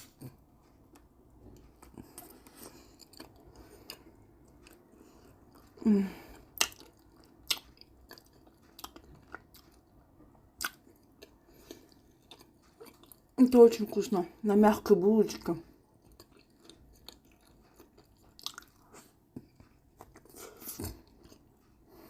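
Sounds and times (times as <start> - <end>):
close chewing with lip smacks: 0.0 - 14.0, 15.7 - 22.0.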